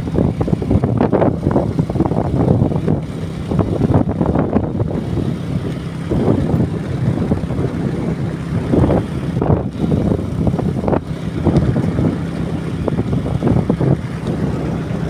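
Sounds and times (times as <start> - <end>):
vehicle engine running: 0.0 - 15.0
wind buffeting microphone: 0.0 - 15.0.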